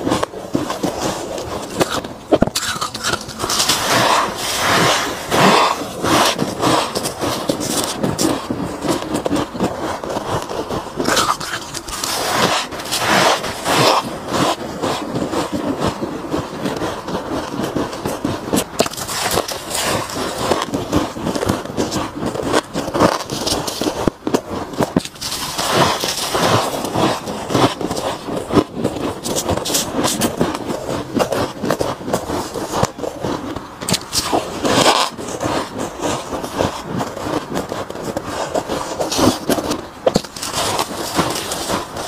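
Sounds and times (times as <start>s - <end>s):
frost crunching while chewed: 0.0s - 42.0s
gloved hands scraping frost: 0.0s - 42.0s.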